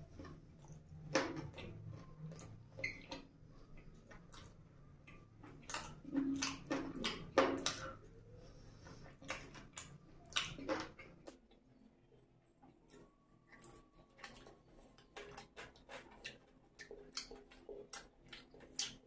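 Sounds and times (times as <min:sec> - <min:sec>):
person chewing wetly: 0:00.0 - 0:19.0.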